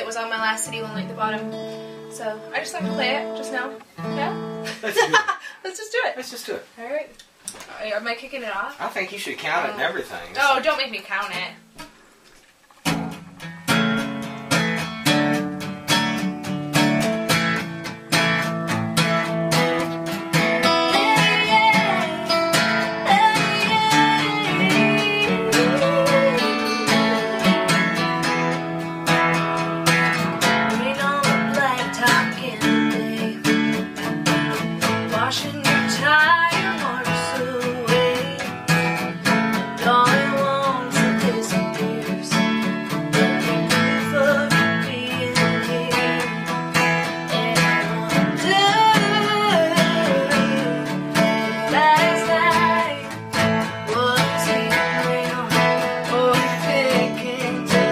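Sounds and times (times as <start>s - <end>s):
acoustic guitars playing country: 0.0s - 5.8s, 8.0s - 57.9s.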